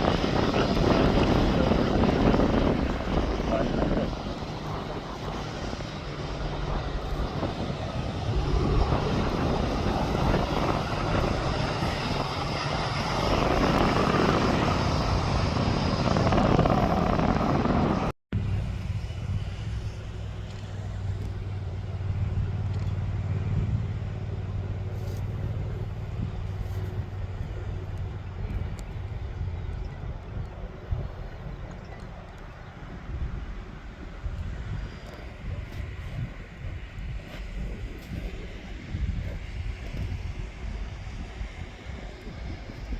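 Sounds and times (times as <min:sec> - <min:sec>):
aircraft engine roar: 0:00.0 - 0:42.9
low engine hum: 0:00.0 - 0:42.9.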